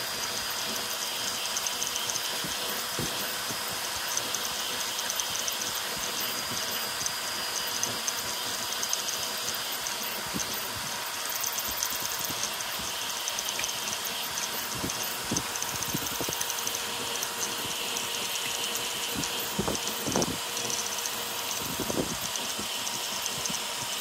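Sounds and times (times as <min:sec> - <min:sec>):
cooling air hiss: 0:00.0 - 0:24.0
stepper motors whining and chirping: 0:00.0 - 0:24.0.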